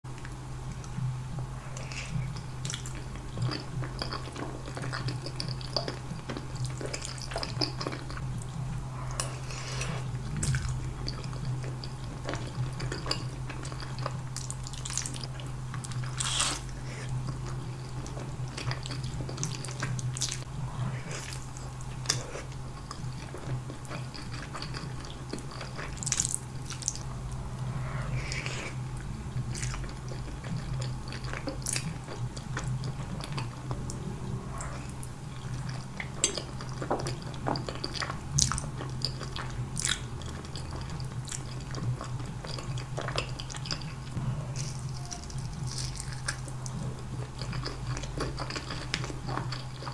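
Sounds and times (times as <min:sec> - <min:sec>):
steady low hum: 0:00.0 - 0:49.9
slurping and chewing noodles: 0:01.7 - 0:49.9.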